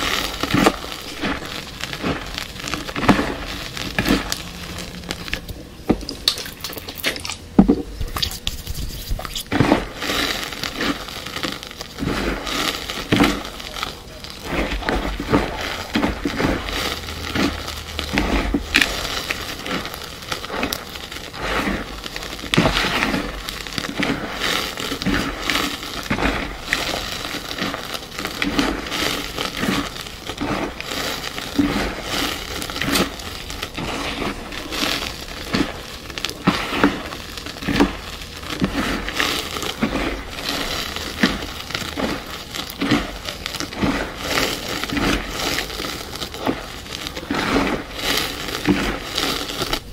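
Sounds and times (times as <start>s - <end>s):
chalk blocks being crushed: 0.0s - 49.9s.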